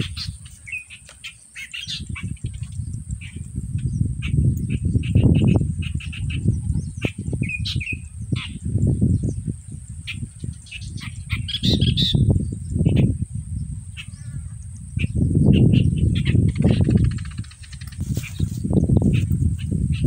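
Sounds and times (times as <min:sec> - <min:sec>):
small birds chirping: 0:00.0 - 0:20.0
wind buffeting microphone: 0:00.0 - 0:20.0.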